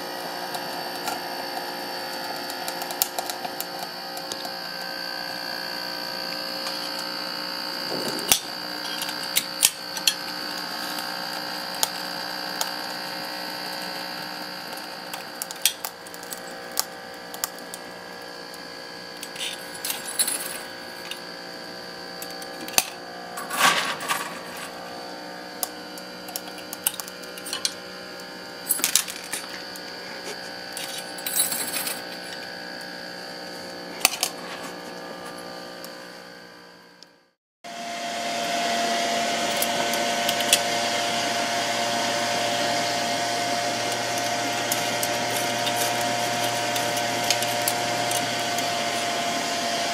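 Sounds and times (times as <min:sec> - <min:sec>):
electric fan humming: 0:00.0 - 0:36.8, 0:37.7 - 0:49.9.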